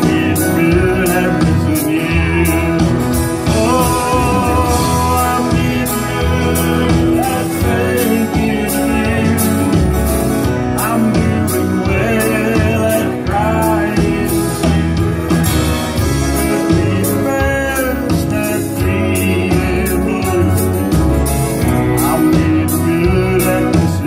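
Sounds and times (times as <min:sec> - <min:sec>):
acoustic guitar: 0:00.0 - 0:24.0
band with steady drum beat: 0:00.0 - 0:24.0
man singing: 0:00.0 - 0:24.0.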